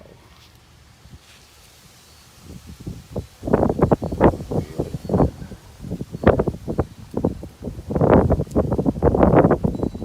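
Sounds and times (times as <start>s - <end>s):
wind buffeting microphone: 1.0s - 10.0s.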